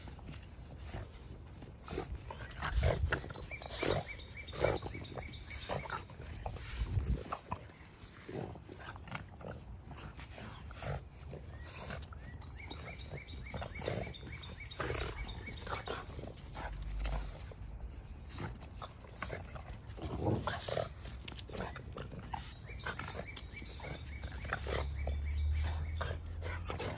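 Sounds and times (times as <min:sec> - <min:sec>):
dogs play-fighting noises: 0:00.0 - 0:26.9.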